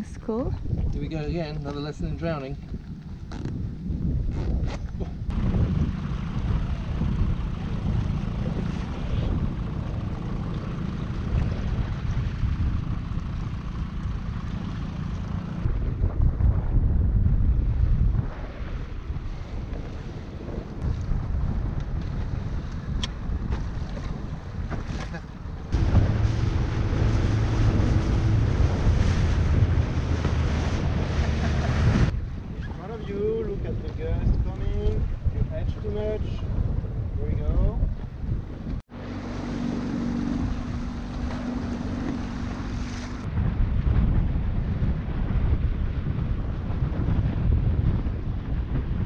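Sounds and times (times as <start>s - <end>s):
choppy water: 0.0s - 49.0s
wind buffeting microphone: 0.0s - 49.0s
motorboat engine hum: 2.5s - 35.5s, 37.8s - 49.0s.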